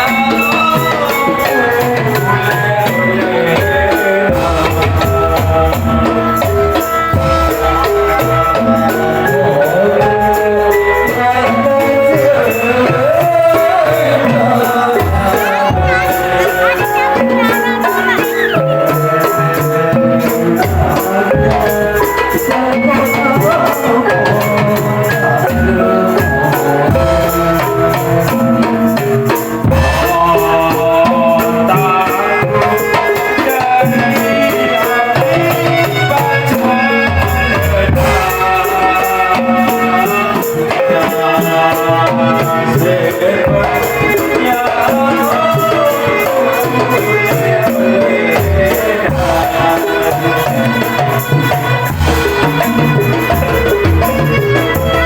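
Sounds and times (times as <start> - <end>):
jingling shaken percussion: 0.0 - 55.0
melody over rhythmic drumming: 0.0 - 55.0.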